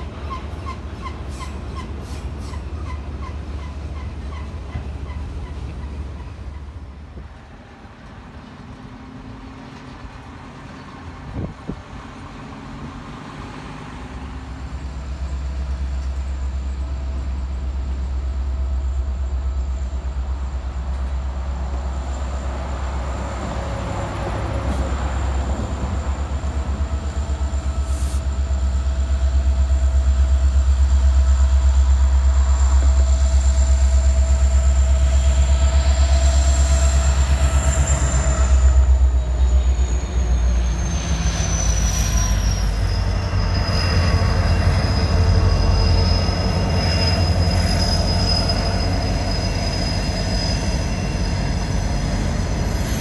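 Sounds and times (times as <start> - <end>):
diesel locomotive rumble: 0.0 - 53.0.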